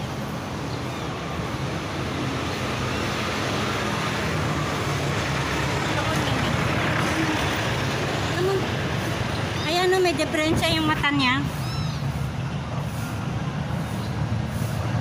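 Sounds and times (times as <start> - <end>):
road traffic noise: 0.0 - 15.0
vehicle engine running nearby: 0.0 - 15.0.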